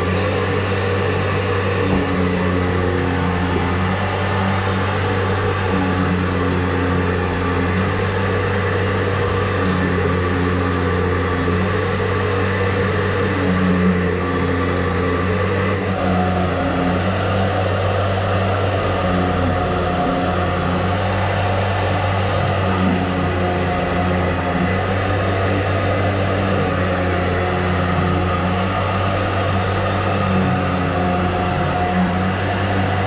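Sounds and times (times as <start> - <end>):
drain-cleaning machine motor humming: 0.0 - 33.0.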